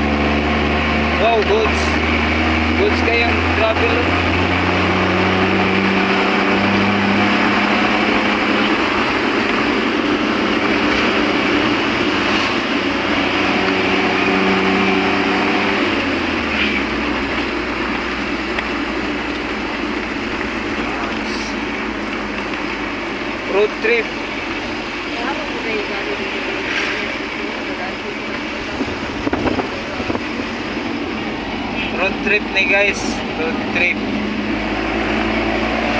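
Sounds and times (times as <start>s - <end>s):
low engine hum: 0.0s - 35.9s
road noise inside car cabin: 0.0s - 35.9s.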